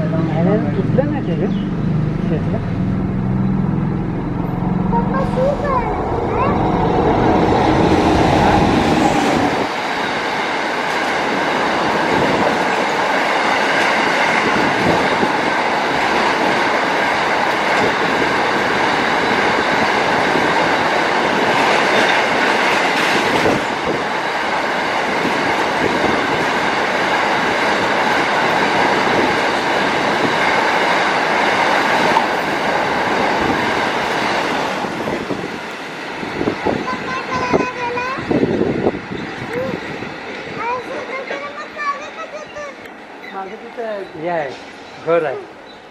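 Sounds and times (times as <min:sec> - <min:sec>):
electric locomotive passing: 0:00.0 - 0:45.9
freight train wheels on rails: 0:00.0 - 0:45.9.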